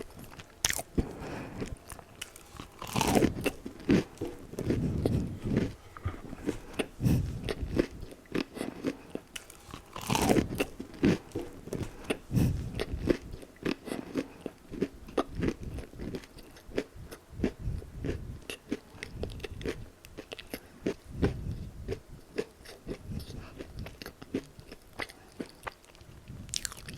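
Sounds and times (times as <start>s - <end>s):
crunching fried chicken bites: 0.0s - 26.9s.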